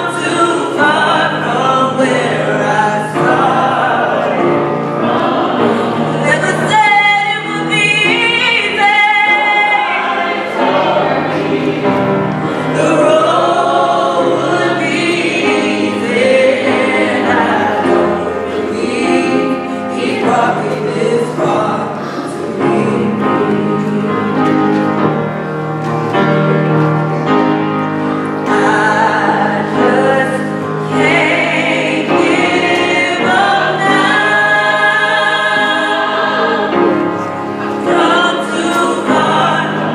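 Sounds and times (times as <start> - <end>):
choir singing gospel music: 0.0 - 39.9.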